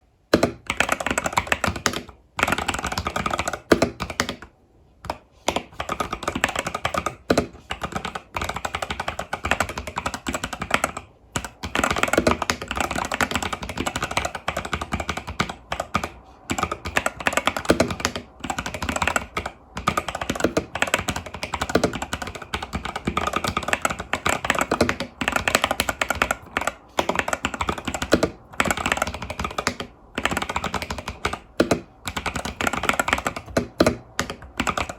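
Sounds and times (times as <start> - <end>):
mechanical keyboard typing: 0.3 - 34.9.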